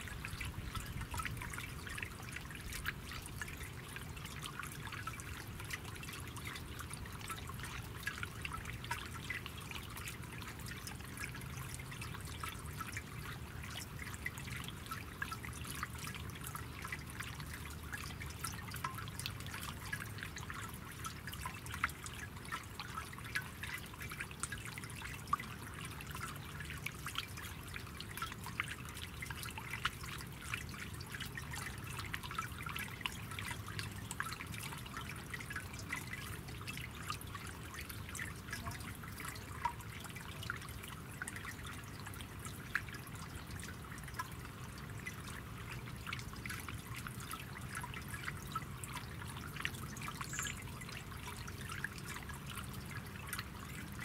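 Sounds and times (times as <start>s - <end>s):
fountain water trickling and splashing: 0.0s - 54.0s.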